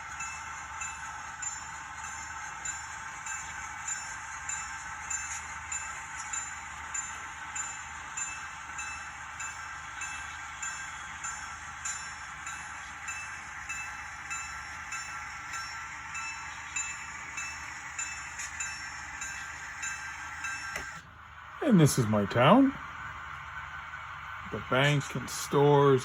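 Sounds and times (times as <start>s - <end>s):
locomotive bell ringing: 0.0s - 21.0s, 21.6s - 26.0s
model train hum and hiss: 0.0s - 26.0s.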